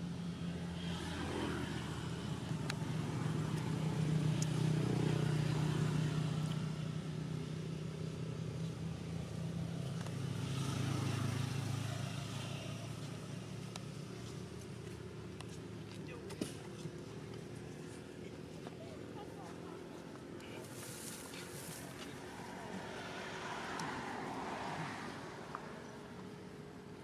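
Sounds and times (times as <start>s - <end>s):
vehicle engines passing: 0.0s - 27.0s.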